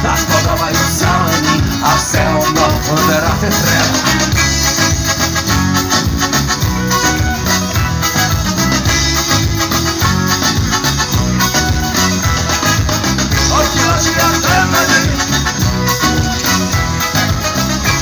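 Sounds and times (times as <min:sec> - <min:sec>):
live band playing instrumental: 0:00.0 - 0:18.0.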